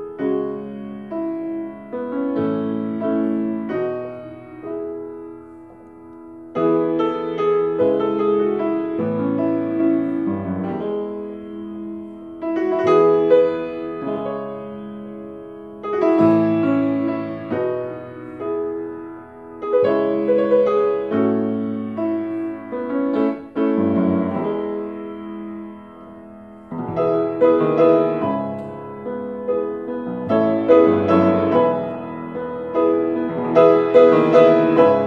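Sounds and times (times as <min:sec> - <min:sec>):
slow gentle piano piece: 0:00.0 - 0:35.0.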